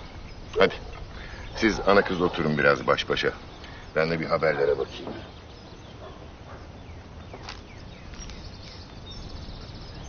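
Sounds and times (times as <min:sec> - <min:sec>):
background hiss: 0:00.0 - 0:10.0
small birds chirping: 0:00.0 - 0:10.0.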